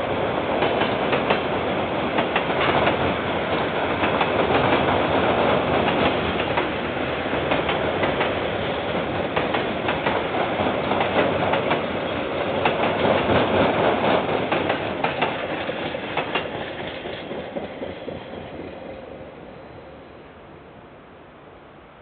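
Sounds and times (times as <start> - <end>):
train wheels clicking over rail joints: 0.5 - 19.0.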